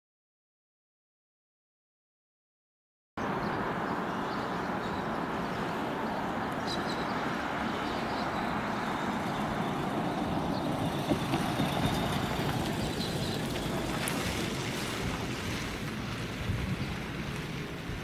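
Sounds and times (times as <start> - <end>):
steady outdoor rushing noise: 3.2 - 18.0.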